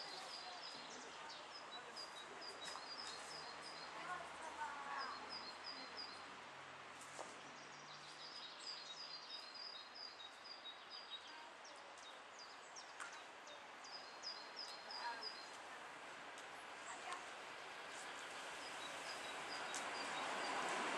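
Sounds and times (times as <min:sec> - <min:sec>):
faint songbird singing: 0:00.0 - 0:06.3, 0:07.4 - 0:15.8, 0:17.9 - 0:20.8
steady outdoor hiss: 0:00.0 - 0:20.9.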